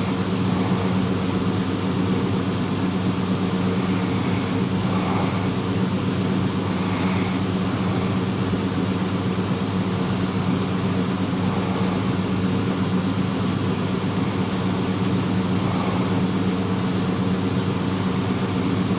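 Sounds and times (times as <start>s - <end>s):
sleeping person breathing: 0.0s - 18.9s
steady low hum: 0.0s - 18.9s.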